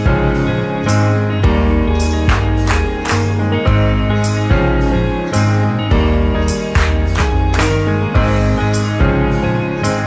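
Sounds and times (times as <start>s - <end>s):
soft pop guitar and bass: 0.0s - 10.0s.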